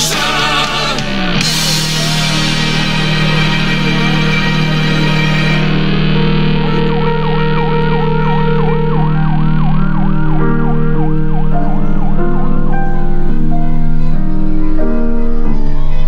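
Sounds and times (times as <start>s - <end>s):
music chords and bass line: 0.0s - 16.0s
ambulance siren yelping: 1.1s - 14.2s.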